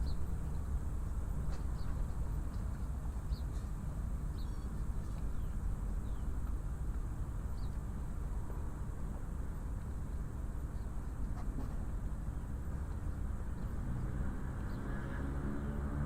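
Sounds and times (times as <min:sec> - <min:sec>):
steady low rumble: 0:00.0 - 0:15.4.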